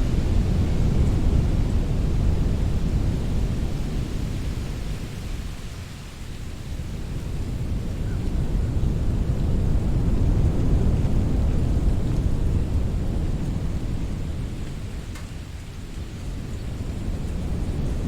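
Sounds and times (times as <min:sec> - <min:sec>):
wind gusting: 0:00.0 - 0:15.0, 0:15.7 - 0:18.0.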